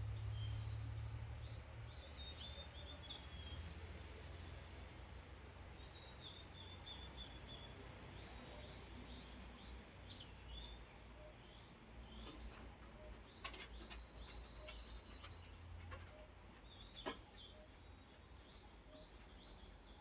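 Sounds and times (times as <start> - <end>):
small birds chirping: 0.1 - 4.8, 5.6 - 20.0.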